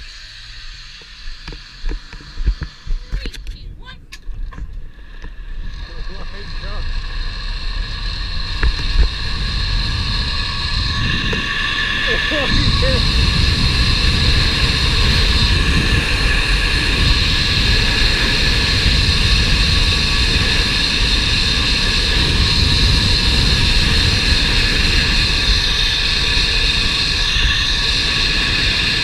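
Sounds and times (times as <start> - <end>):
zip-line trolley whining on cable: 0.0 - 29.0
wind buffeting microphone: 1.9 - 29.0.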